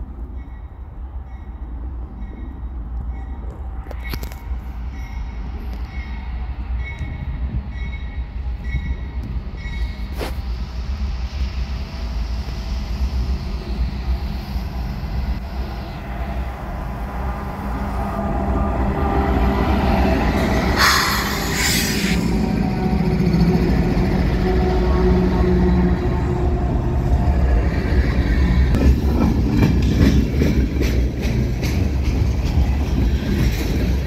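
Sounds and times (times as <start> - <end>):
diesel locomotives rumbling past: 0.0 - 34.0.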